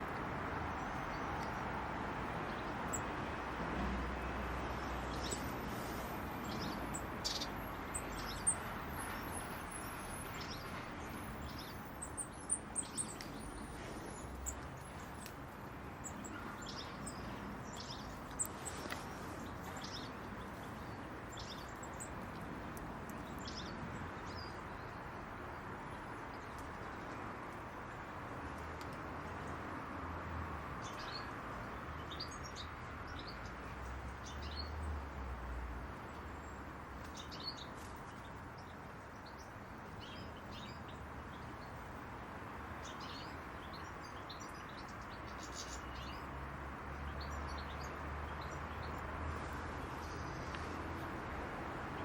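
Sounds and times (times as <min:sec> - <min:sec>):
small birds chirping: 0:00.0 - 0:03.3, 0:04.2 - 0:28.1, 0:30.8 - 0:35.2, 0:35.8 - 0:51.1
outdoor background noise: 0:00.0 - 0:52.0.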